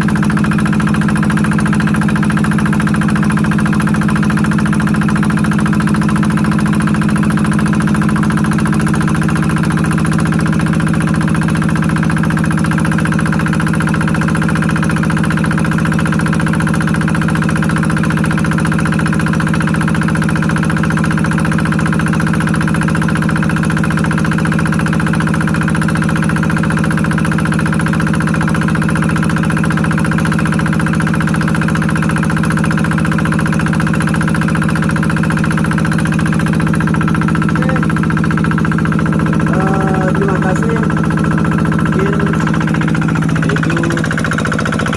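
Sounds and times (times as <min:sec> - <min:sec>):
water pump engine running: 0:00.0 - 0:44.9.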